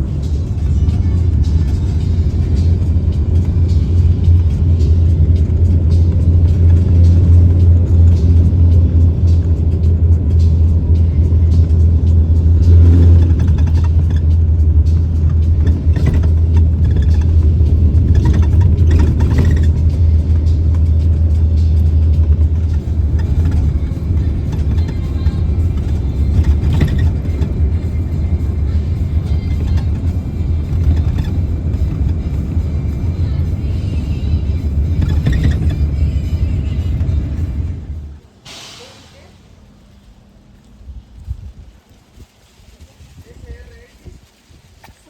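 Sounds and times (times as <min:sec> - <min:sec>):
music: 0:00.0 - 0:38.2
low rumble: 0:00.0 - 0:38.4, 0:39.2 - 0:44.3.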